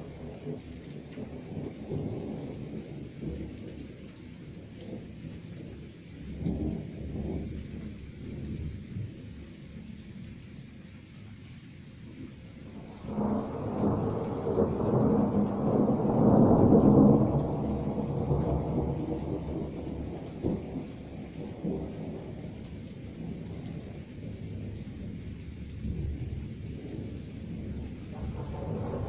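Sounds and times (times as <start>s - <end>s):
thunder rumbling: 0.0s - 10.4s, 12.2s - 29.0s
rain hissing: 0.0s - 29.0s.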